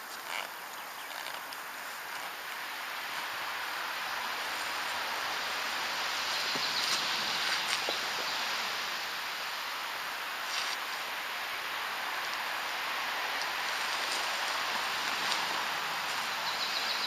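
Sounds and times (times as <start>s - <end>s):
soft outdoor hiss: 0.0s - 17.0s.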